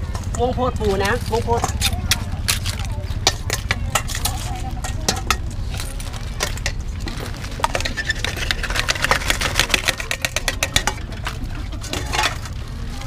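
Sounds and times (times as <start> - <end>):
rapid clicks and clatter: 1.5 - 12.8.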